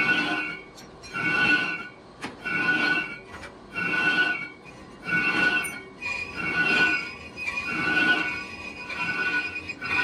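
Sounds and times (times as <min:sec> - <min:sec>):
lathe tool squealing on metal: 0:00.0 - 0:10.0.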